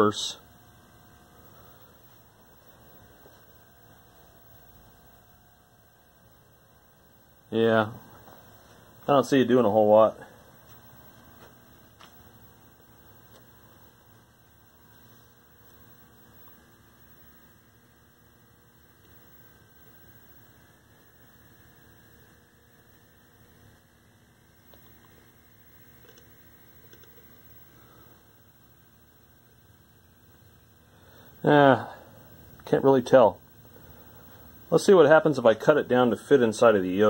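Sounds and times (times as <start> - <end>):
faint mains hum: 0.0 - 37.0.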